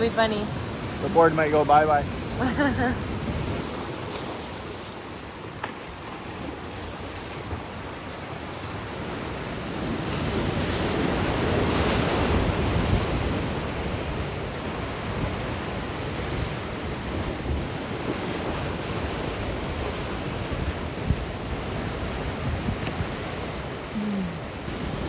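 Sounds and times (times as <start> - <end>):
wind buffeting microphone: 0.0 - 4.8, 9.0 - 25.0
ocean surf breaking: 0.0 - 25.0.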